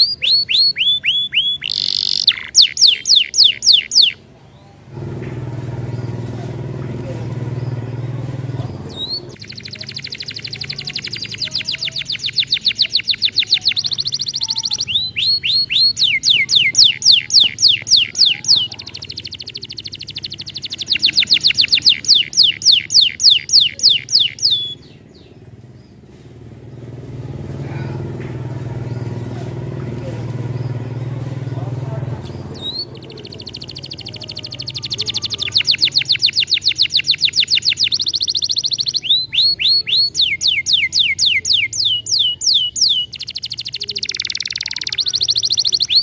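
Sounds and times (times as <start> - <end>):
canary trilling song: 0.0 - 4.9, 5.6 - 46.0.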